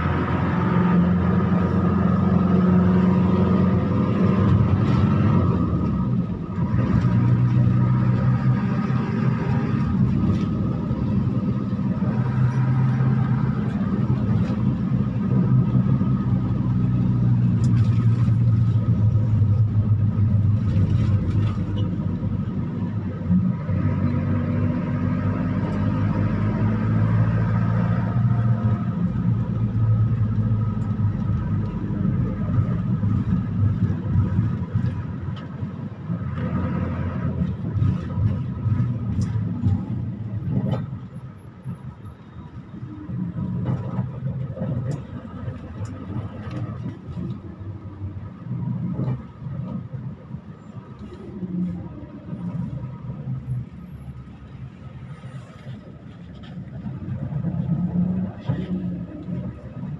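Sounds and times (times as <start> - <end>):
vehicle engine and road drone: 0.0 - 59.9.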